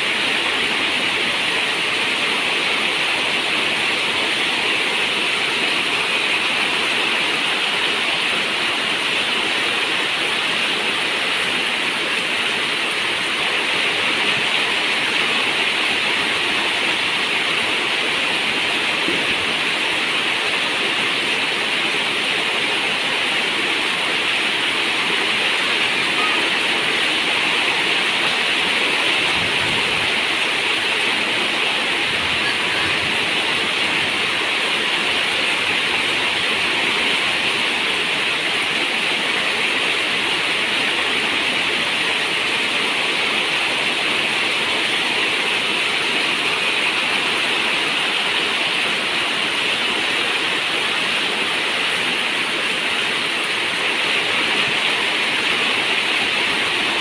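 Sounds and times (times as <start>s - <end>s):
heavy rain: 0.0s - 57.0s
running water: 0.0s - 57.0s.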